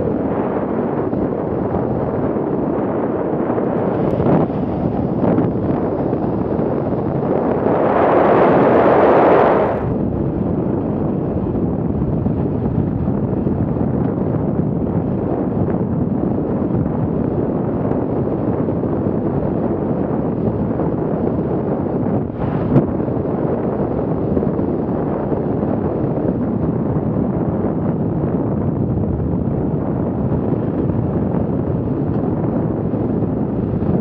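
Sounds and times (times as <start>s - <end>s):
wind gust buffeting: 0.0s - 34.0s
wind rushing over microphone: 0.0s - 34.0s.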